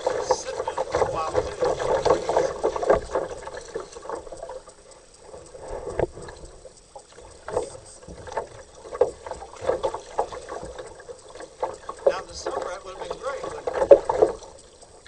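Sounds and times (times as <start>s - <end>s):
paddle knocks: 0.0s - 4.6s, 7.1s - 15.0s
paddle splashing in water: 0.0s - 15.0s.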